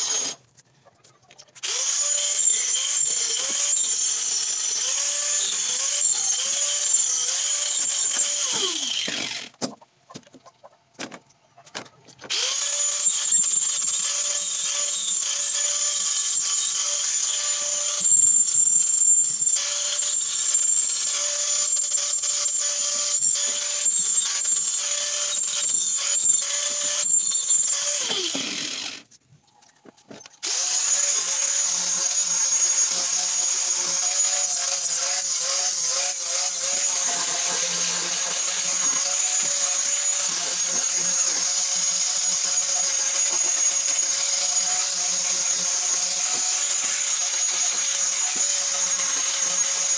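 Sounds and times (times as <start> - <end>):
angle grinder whining on plywood: 0.0 - 0.4, 1.6 - 9.6, 12.2 - 29.1, 30.4 - 49.9.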